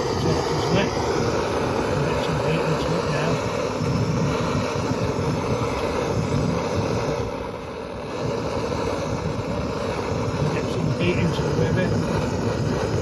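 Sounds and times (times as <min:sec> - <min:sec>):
gas blow torch burning: 0:00.0 - 0:13.0.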